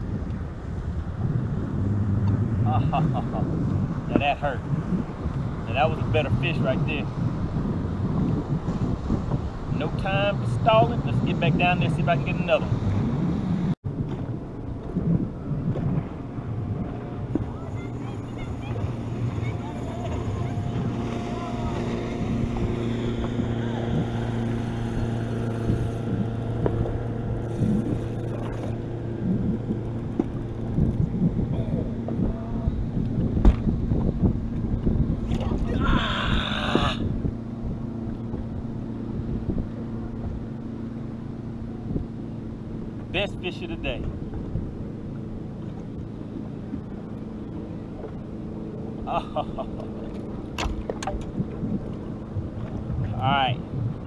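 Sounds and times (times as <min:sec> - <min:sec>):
boat motor humming: 0:00.0 - 0:54.0.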